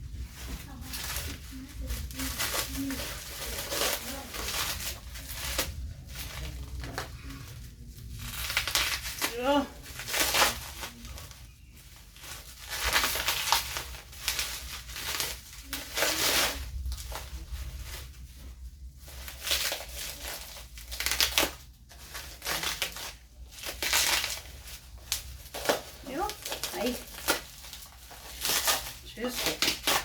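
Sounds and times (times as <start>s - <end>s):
packaging crinkling: 0.1s - 30.0s.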